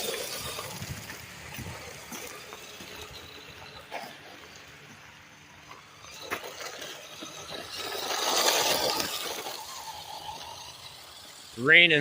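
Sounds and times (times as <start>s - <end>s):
toy car motor and tyres passing: 0.0s - 12.0s.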